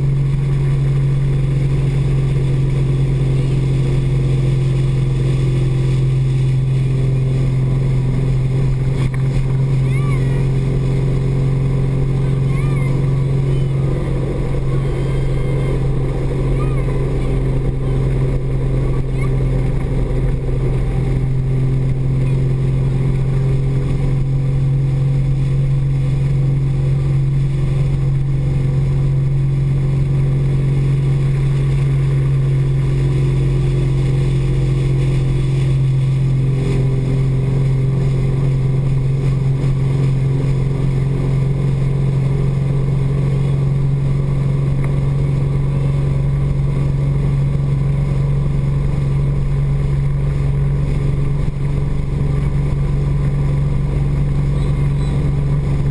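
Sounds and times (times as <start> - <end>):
speedboat engine drone: 0.0 - 55.9.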